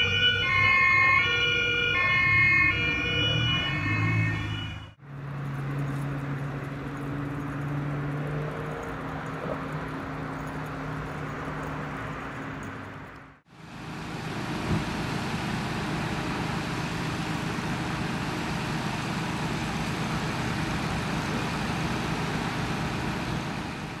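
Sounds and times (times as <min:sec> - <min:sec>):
engine hum: 0:00.0 - 0:24.0
road traffic noise: 0:00.0 - 0:24.0.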